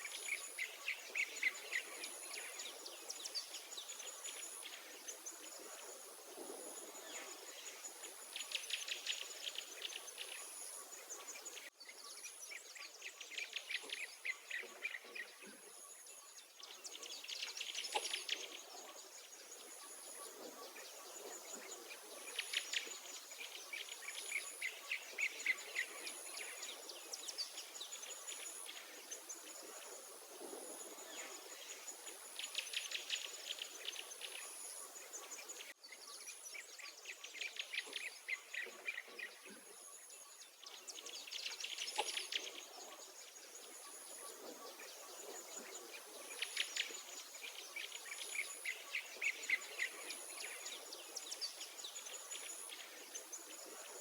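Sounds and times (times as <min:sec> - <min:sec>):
faint steady hiss: 0:00.0 - 0:54.0
songbirds trilling and warbling: 0:00.0 - 0:54.0.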